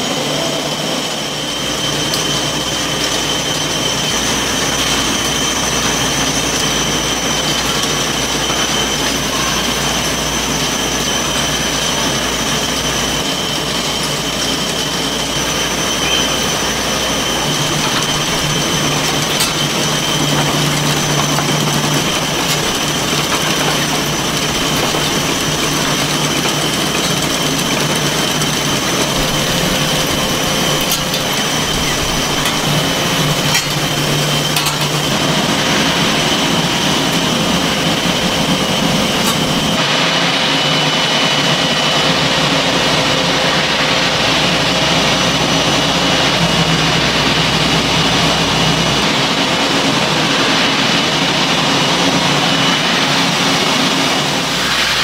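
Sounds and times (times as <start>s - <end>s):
machinery high whine: 0.0s - 55.0s
machinery low hum: 0.0s - 55.0s.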